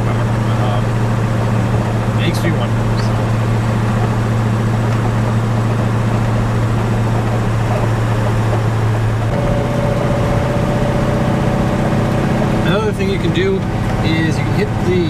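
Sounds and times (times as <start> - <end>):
car engine droning: 0.0 - 15.0
high whine: 0.0 - 15.0.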